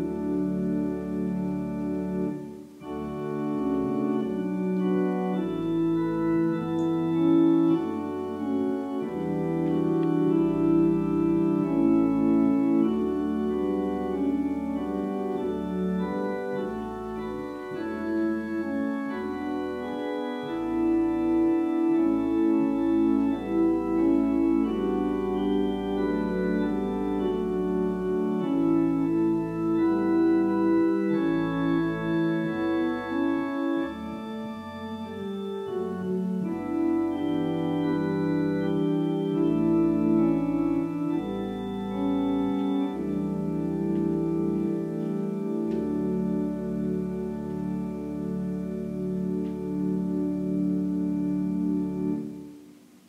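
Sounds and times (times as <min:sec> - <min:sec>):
organ playing slow chords: 0:00.0 - 0:53.0.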